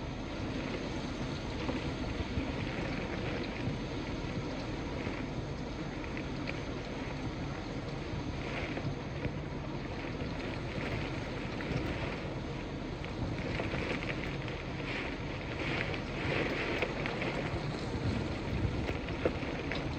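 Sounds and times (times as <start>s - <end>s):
wind and rain rushing: 0.0s - 19.9s
wind buffeting microphone: 0.0s - 19.9s.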